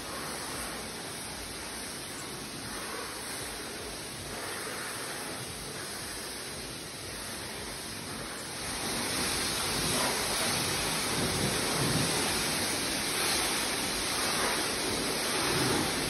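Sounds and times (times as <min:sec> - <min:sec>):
high-pressure water spray hissing: 0:00.0 - 0:16.0.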